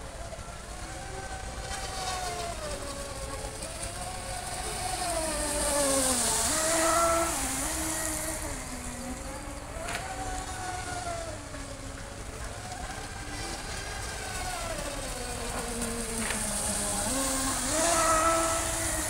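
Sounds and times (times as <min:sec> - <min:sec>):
model boat motor whining: 0:00.0 - 0:19.0.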